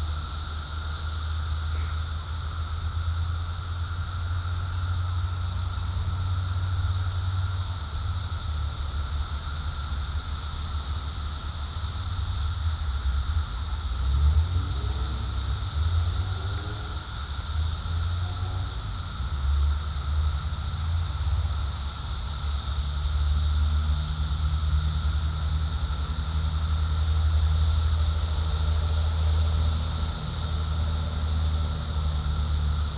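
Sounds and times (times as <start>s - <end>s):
cicadas droning: 0.0s - 32.9s.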